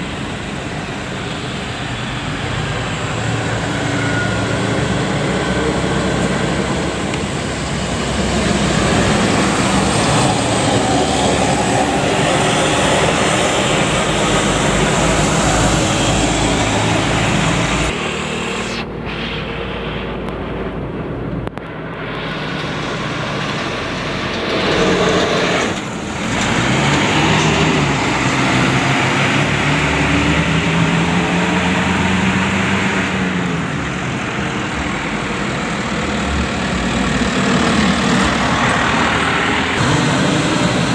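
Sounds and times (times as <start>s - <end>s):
heavy vehicles passing: 0.0s - 40.9s
engine note rising and falling: 2.2s - 35.1s, 35.8s - 40.9s.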